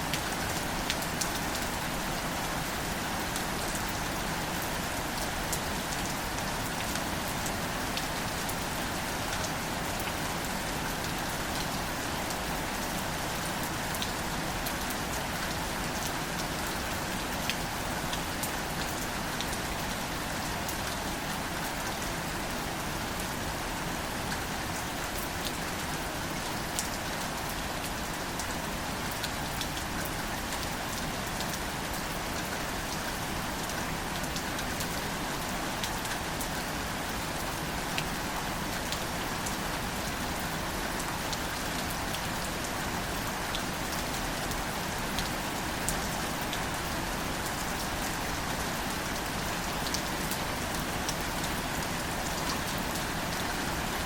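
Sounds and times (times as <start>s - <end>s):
gentle rain on plants: 0.0s - 54.0s.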